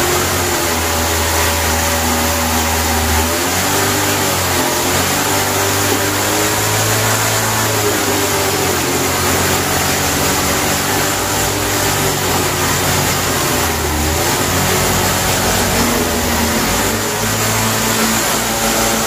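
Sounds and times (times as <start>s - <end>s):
engine running loudly: 0.0s - 19.0s.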